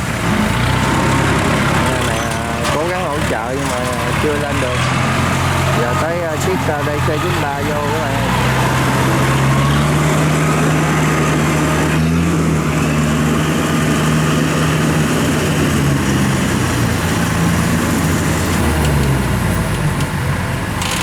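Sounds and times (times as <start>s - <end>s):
diesel engine running hard: 0.0s - 21.0s.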